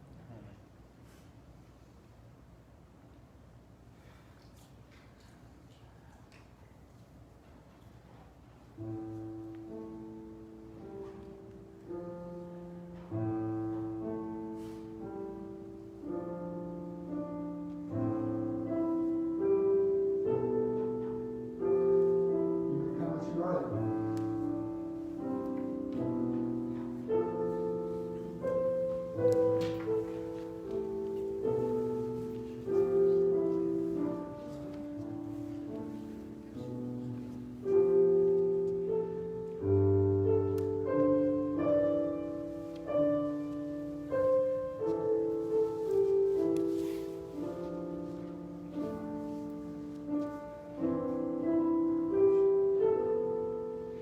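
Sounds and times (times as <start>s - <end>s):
slow quiet piano music: 0.0s - 54.0s.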